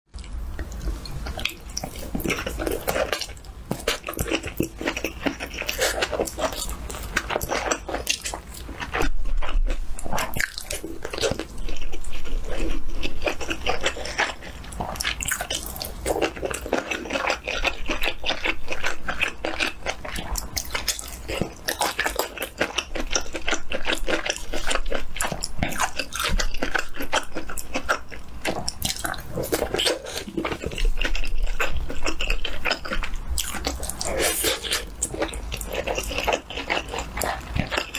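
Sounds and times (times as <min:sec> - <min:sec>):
biting and chewing food: 0:00.1 - 0:37.9.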